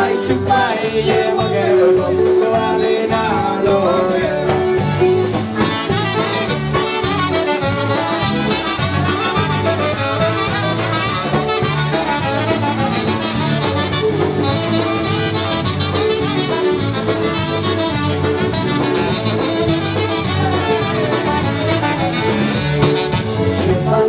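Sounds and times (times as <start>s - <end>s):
polka band with horns: 0.0s - 24.0s.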